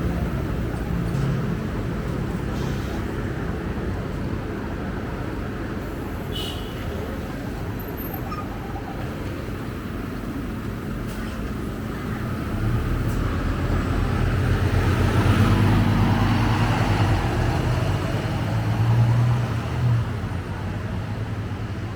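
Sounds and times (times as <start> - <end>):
bus engine humming: 0.0 - 21.9
road noise: 0.0 - 21.9.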